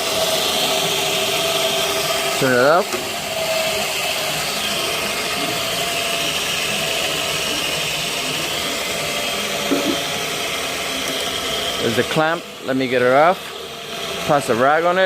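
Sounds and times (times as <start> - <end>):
electric polishing machine running: 0.0 - 15.0.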